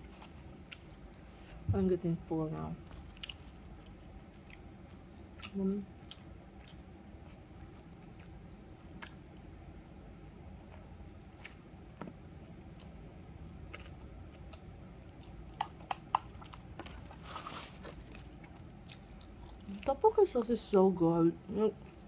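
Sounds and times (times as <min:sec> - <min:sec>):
person chewing food: 0:00.0 - 0:01.6, 0:02.9 - 0:19.9, 0:21.8 - 0:22.0.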